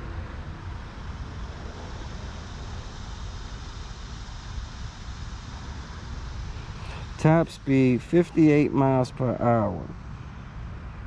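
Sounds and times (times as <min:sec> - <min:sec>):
road traffic: 0:00.0 - 0:11.0
wind: 0:00.0 - 0:11.0.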